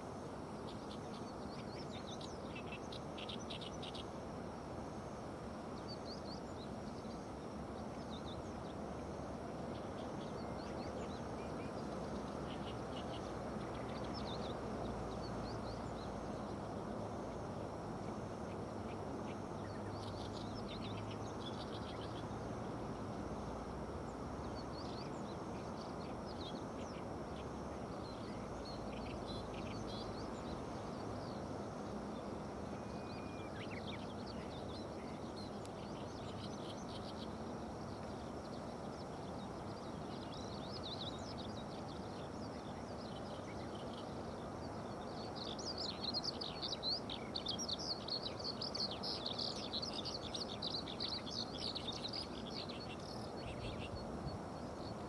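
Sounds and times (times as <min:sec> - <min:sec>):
small birds chirping: 0:05.7 - 0:55.0.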